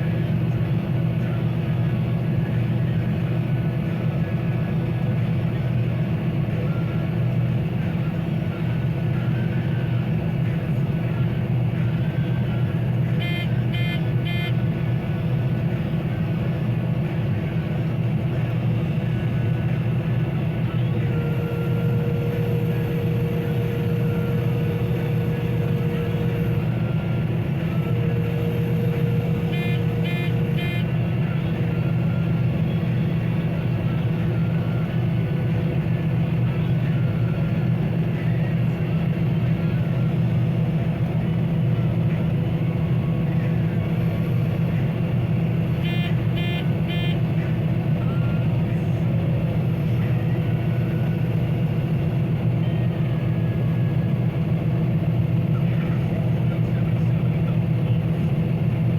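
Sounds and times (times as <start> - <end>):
combine harvester drone: 0.0 - 58.9.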